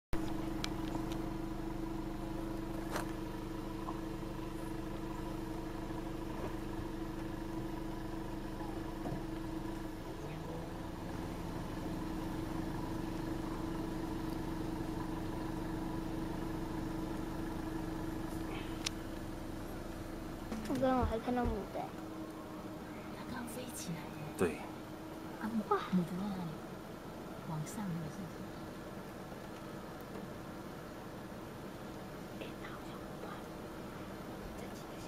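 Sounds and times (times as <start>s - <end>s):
car engine idling: 0.1s - 35.0s.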